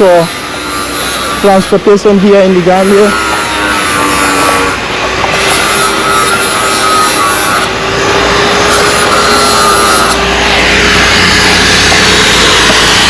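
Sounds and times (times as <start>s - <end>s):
engine hum: 0.0s - 13.0s
rough grinding rubbing noise: 0.0s - 13.0s.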